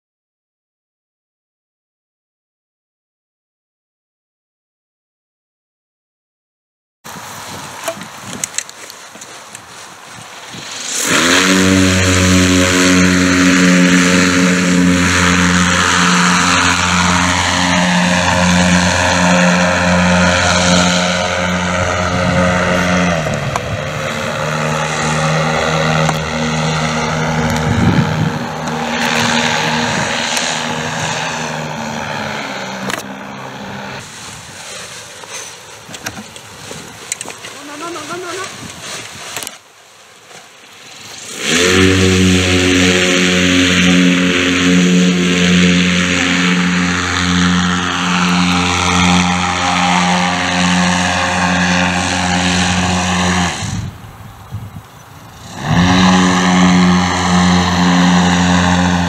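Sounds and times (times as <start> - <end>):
propeller drone with motor whine: 10.2 - 59.0.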